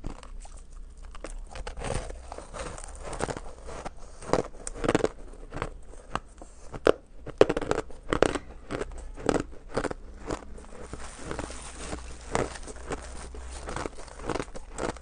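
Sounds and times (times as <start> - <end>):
chewing crunching ice: 0.0 - 15.0.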